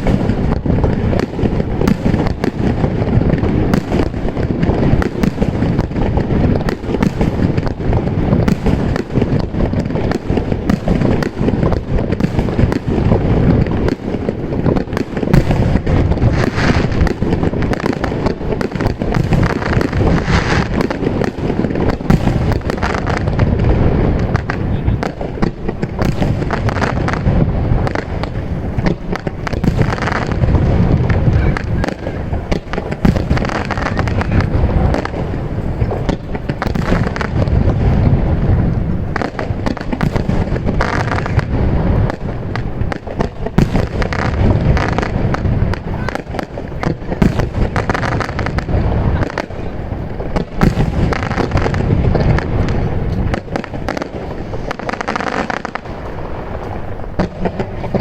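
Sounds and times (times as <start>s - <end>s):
firework crackling: 0.0s - 58.0s
firework shells bursting: 0.0s - 58.0s.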